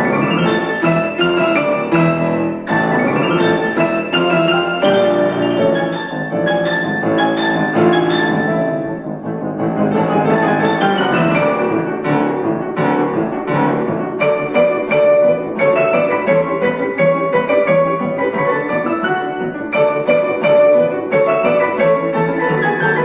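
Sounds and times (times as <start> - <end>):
piano playing classical piece: 0.0 - 23.0.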